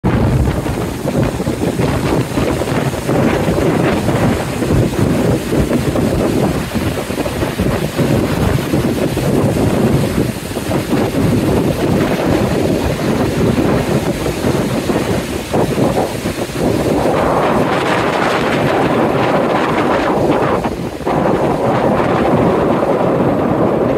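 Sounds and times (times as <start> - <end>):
river rushing over rapids: 0.0 - 23.9
wind buffeting microphone: 0.0 - 23.9.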